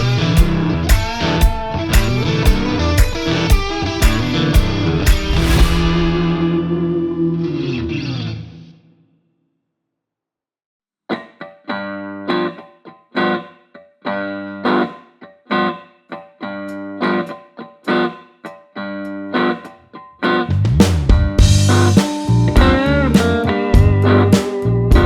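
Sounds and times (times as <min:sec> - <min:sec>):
plucked guitar music: 0:00.0 - 0:08.8, 0:11.1 - 0:25.0.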